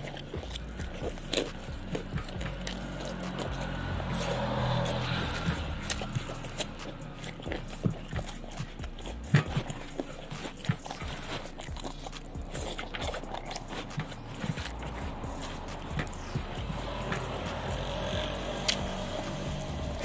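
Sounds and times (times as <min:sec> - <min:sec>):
chewing with wet mouth clicks: 0:00.0 - 0:20.0.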